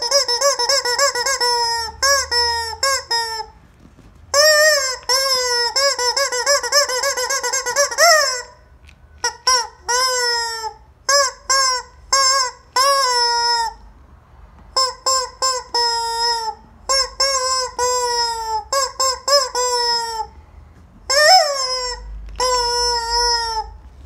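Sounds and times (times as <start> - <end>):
rubber squeaky toy squawking: 0.0 - 3.7, 4.3 - 14.0, 14.7 - 20.4, 21.0 - 23.9.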